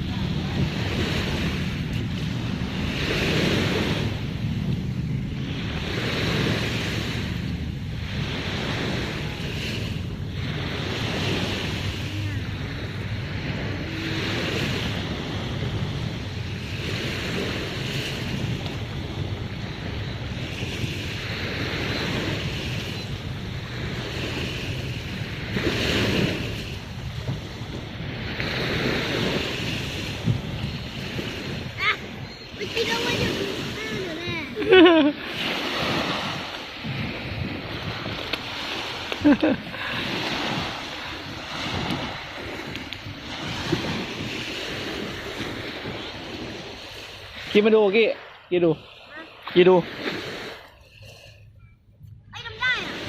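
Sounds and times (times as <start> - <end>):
sea waves washing on shore: 0.0 - 51.6, 52.3 - 53.0
wind buffeting microphone: 0.0 - 53.0.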